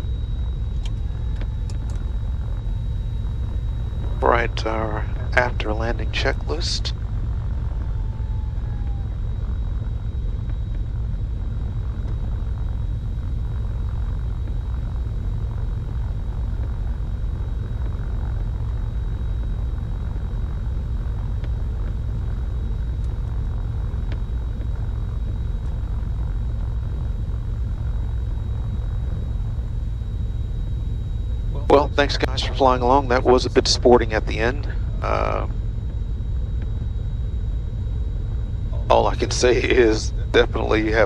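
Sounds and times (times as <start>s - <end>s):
aircraft engines droning: 0.0s - 41.0s
faint high whine: 0.0s - 41.0s.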